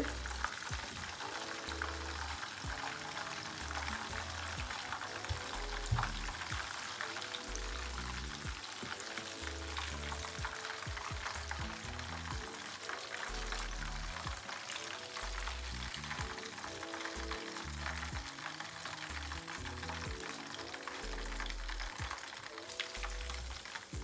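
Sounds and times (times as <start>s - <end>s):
background music with bass line: 0.0s - 6.8s, 7.4s - 14.5s, 15.2s - 22.2s, 22.8s - 24.0s
fish frying in oil: 0.0s - 24.0s.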